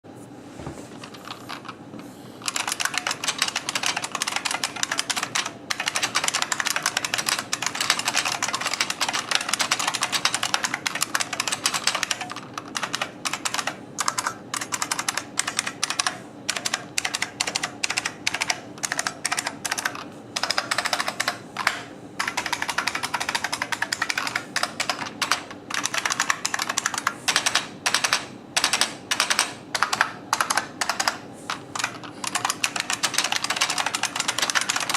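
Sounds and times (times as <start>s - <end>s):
clicky keyboard typing: 2.4s - 34.9s.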